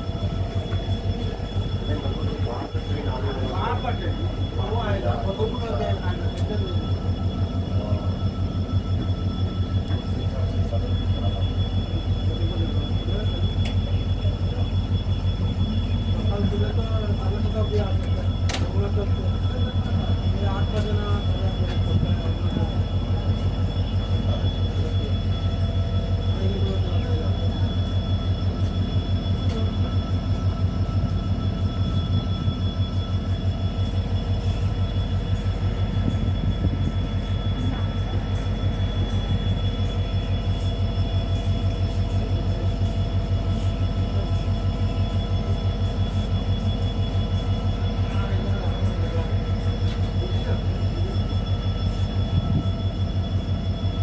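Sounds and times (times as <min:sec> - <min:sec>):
faint whines: 0:00.0 - 0:54.0
train engine low throb: 0:00.0 - 0:54.0.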